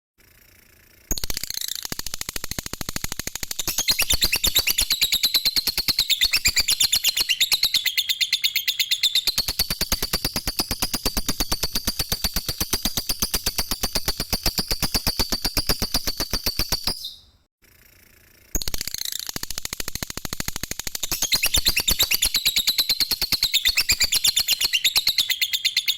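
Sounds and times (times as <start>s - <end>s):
lovebird chattering trill: 1.1s - 17.3s, 20.9s - 25.9s.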